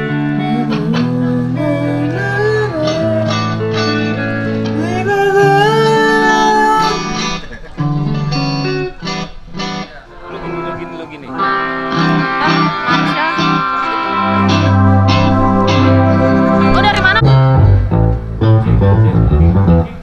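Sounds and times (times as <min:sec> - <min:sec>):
electric guitar music: 0:00.0 - 0:20.0.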